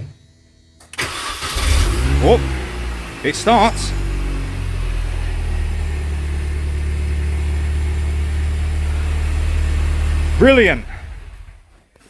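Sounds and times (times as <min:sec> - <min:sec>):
car engine idling: 0:00.8 - 0:11.8.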